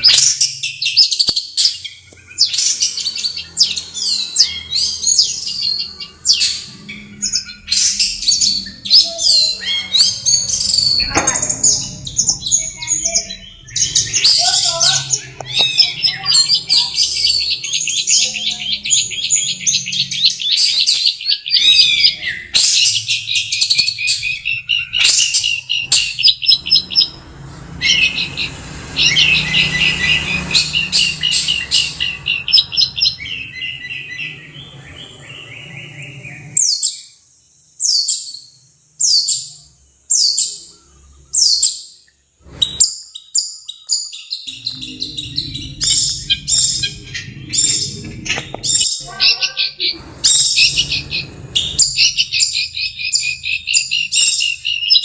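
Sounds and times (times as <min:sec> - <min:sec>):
sharp descending bird calls: 0:00.0 - 0:37.2, 0:37.8 - 0:55.0
bird chattering song: 0:00.0 - 0:55.0.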